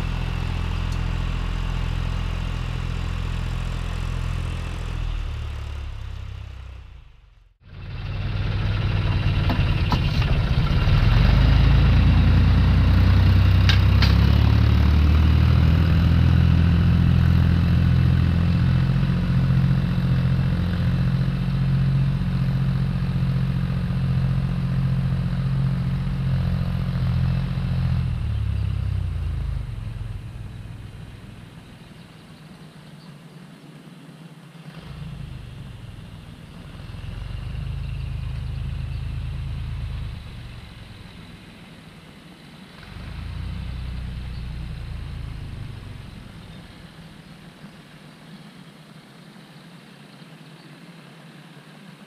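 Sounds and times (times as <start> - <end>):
tractor engine running: 0.0 - 48.6.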